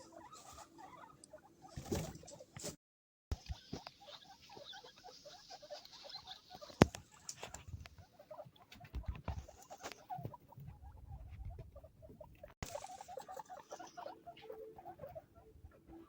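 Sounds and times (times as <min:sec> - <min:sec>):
guinea pigs squeaking: 0:00.0 - 0:16.0.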